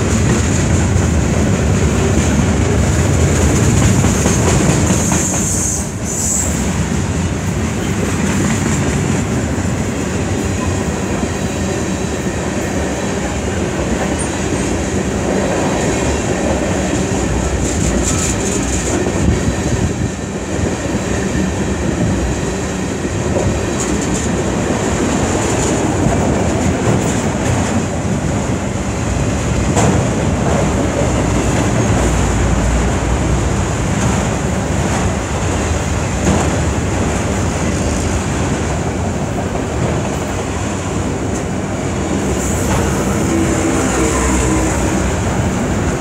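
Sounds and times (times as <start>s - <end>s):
train cars clicking and clanking: 0.0s - 46.0s
train wheels rumbling on rails: 0.0s - 46.0s.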